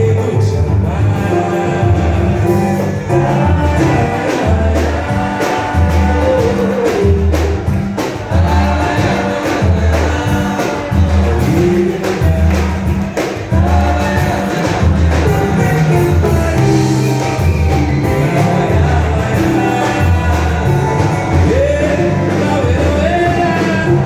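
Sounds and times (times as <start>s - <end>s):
live band with singer: 0.0s - 24.0s
pulsing heavy bass line: 0.0s - 24.0s.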